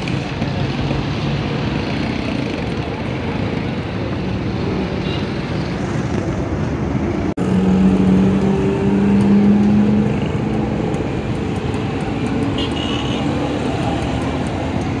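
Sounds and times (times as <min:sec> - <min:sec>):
street traffic noise: 0:00.0 - 0:15.0
vehicle engine humming: 0:00.0 - 0:15.0.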